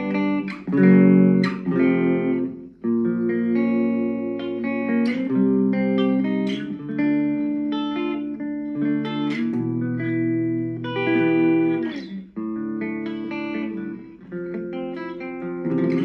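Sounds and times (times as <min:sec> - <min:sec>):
clean electric guitar playing: 0:00.0 - 0:16.0.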